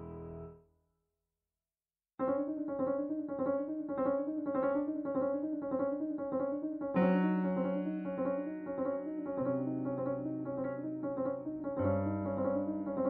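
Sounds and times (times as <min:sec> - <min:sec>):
piano repeated figure: 0:02.2 - 0:13.0.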